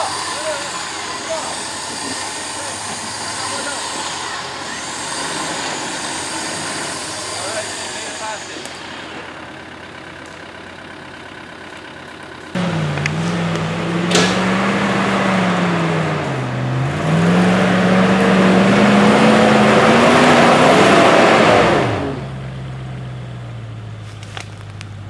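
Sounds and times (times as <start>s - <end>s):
four-wheel drive engine revving: 0.0s - 25.0s
spinning tyres rushing: 0.0s - 25.0s.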